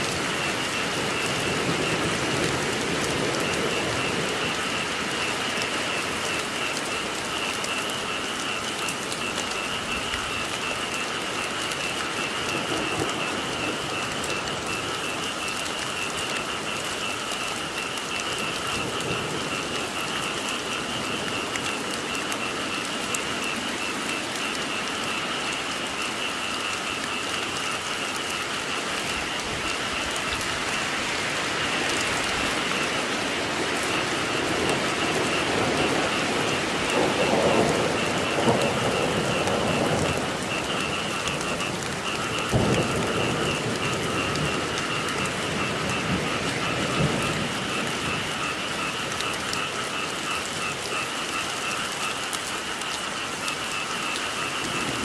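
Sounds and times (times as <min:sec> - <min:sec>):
frogs calling: 0:00.0 - 0:55.0
steady rain falling: 0:00.0 - 0:55.0.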